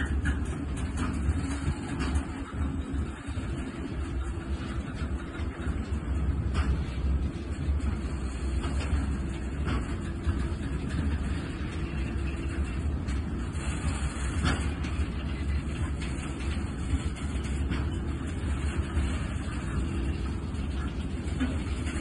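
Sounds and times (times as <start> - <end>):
steel wheels rumbling on rail: 0.0 - 22.0.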